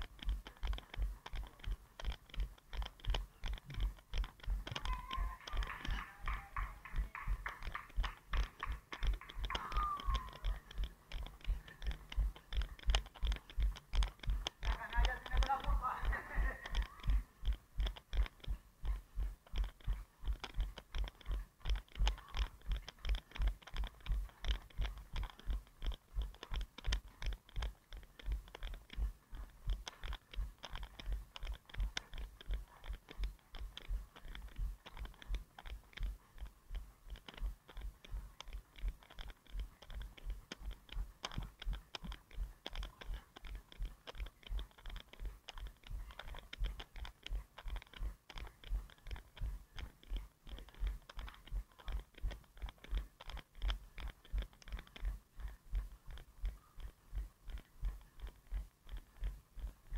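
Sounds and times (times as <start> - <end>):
running footfalls thudding: 0.0 - 53.0.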